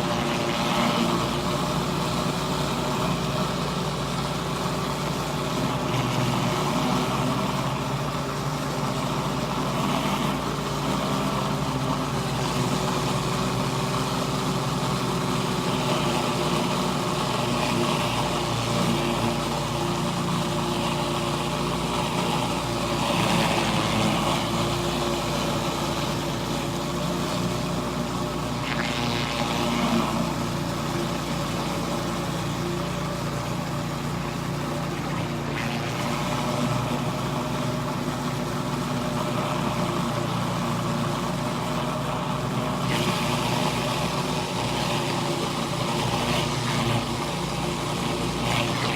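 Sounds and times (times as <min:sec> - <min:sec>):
pressure washer engine running: 0:00.0 - 0:48.9.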